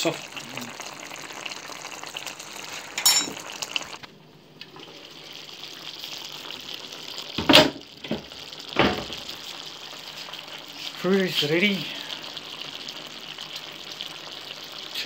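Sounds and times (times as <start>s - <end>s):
sauce bubbling in frying pan: 0.0s - 15.0s.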